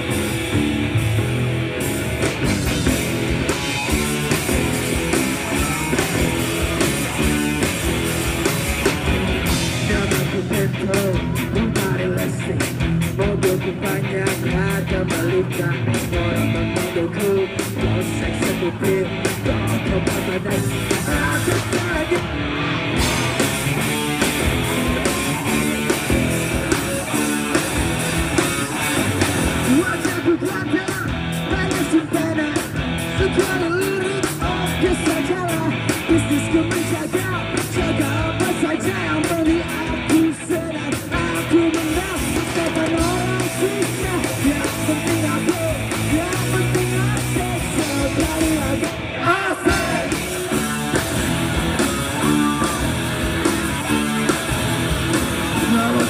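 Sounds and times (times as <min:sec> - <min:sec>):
rock music with singing: 0:00.0 - 0:56.0.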